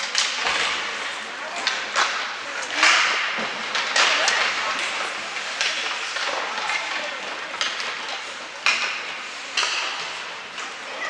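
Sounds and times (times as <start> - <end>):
stick hitting puck: 0.0 - 10.8
skates hissing on ice: 0.3 - 11.0.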